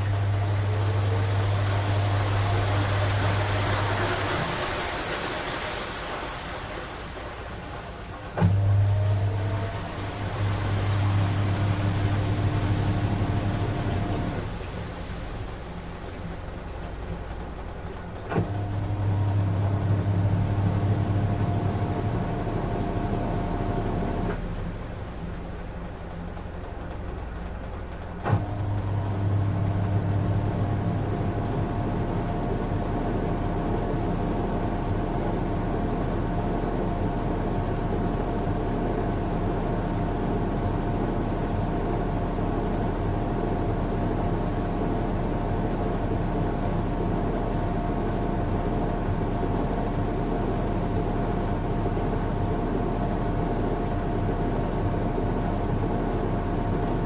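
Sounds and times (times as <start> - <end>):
washing machine motor humming: 0.0 - 57.0.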